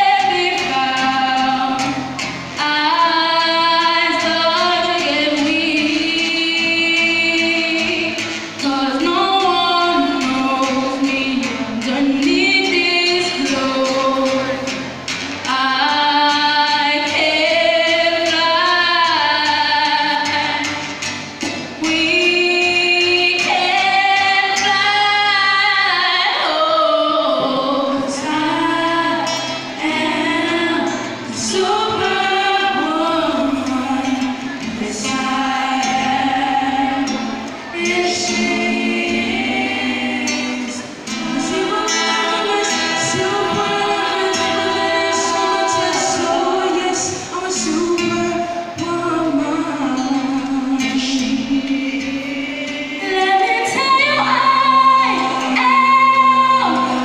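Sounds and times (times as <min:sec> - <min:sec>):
girls singing into microphones: 0:00.0 - 0:57.0.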